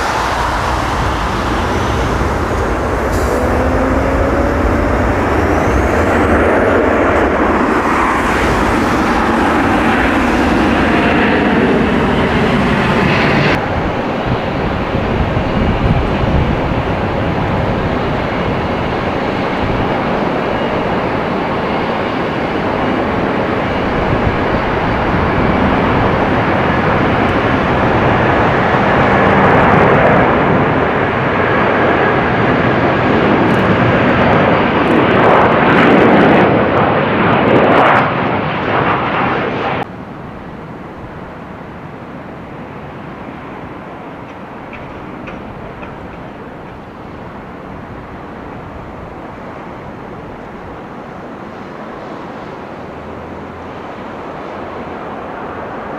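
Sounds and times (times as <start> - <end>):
airplane engine rushing: 0.0 - 55.9.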